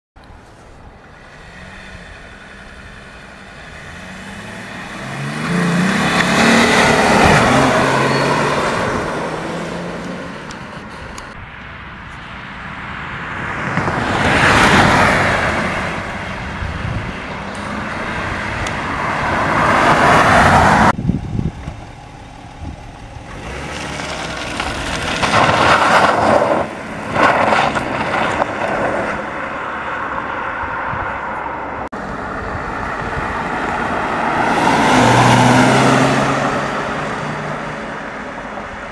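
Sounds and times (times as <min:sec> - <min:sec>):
diesel car driving past: 0:01.1 - 0:11.4, 0:12.3 - 0:38.9.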